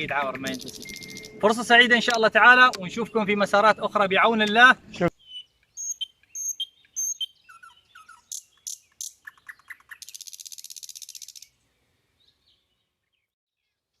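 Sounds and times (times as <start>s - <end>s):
high bird trill: 0.0s - 11.6s
small birds chirping: 0.0s - 14.0s.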